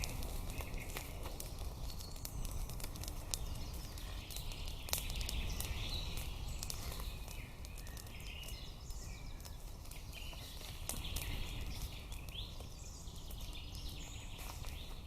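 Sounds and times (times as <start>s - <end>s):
faint bird calls chirping: 0.0s - 15.0s
sharp clicks and crackles: 0.0s - 15.0s.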